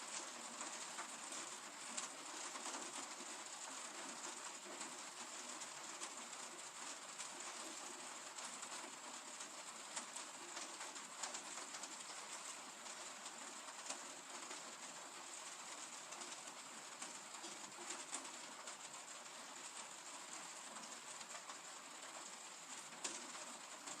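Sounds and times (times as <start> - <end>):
raindrops ticking on hard surface: 0.0 - 24.0
steady rain hiss: 0.0 - 24.0.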